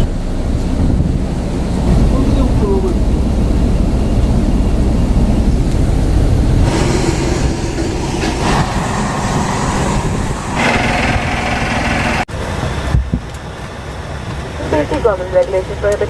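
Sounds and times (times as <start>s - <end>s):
vehicle engine noise: 0.0s - 16.0s.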